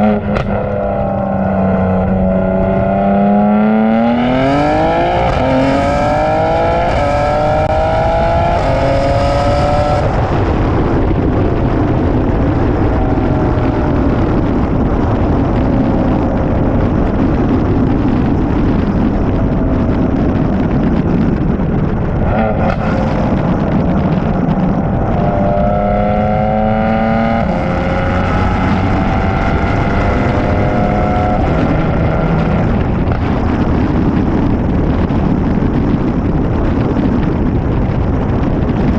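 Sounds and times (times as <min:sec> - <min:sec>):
car engine revving: 0:00.0 - 0:20.0, 0:22.0 - 0:34.8.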